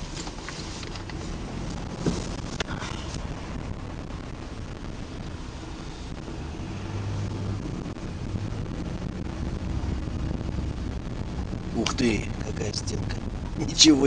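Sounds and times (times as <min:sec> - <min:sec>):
car engine and tyre rumble: 0:00.0 - 0:14.0
low hum: 0:00.8 - 0:13.8.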